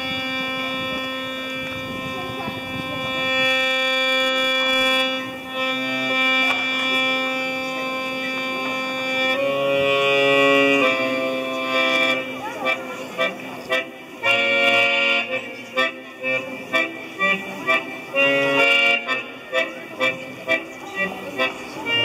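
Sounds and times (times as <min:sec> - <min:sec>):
accordion playing held chords: 0:00.0 - 0:22.0.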